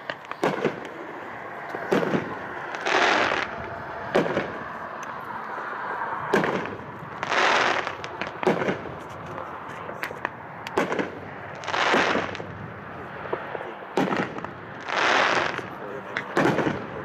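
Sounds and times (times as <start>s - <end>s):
fireworks rushing burst: 0.0s - 5.0s, 5.8s - 17.0s
fireworks shots thudding: 0.0s - 5.1s, 6.2s - 17.0s.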